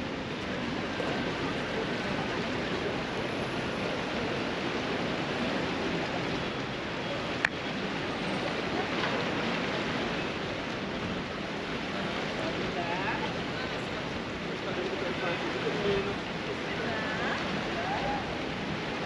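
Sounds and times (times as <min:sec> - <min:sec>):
distant voices: 0:00.0 - 0:19.0
traffic: 0:00.0 - 0:19.0.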